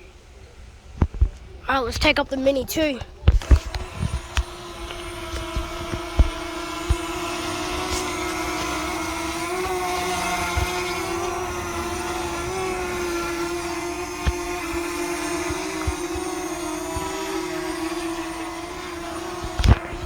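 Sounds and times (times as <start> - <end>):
wind thumps on microphone: 1.0 - 1.6, 3.0 - 20.0
drone propellers buzzing: 3.1 - 20.0.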